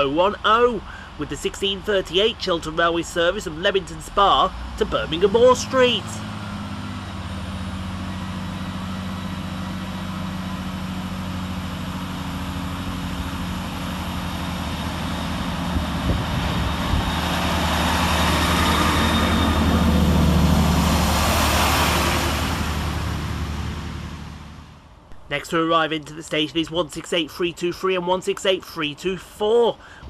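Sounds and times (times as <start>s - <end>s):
diesel train engine hum: 0.0s - 30.0s.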